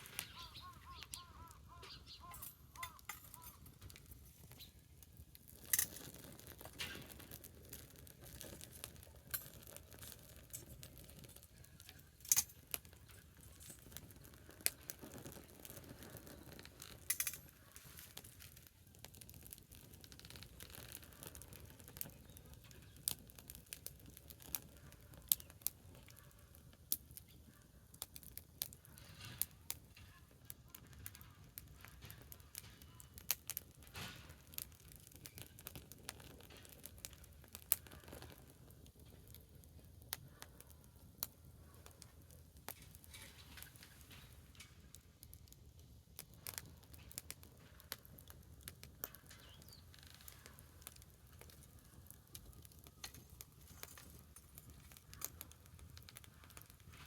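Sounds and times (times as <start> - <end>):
bonfire crackling: 0.0 - 57.0
burning wood popping: 0.0 - 57.0.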